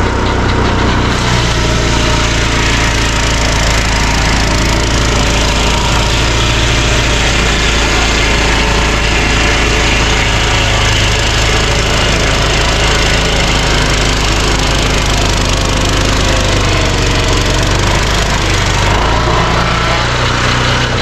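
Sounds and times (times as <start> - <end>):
circular saw cutting log: 0.0 - 21.0
engine running: 0.0 - 21.0.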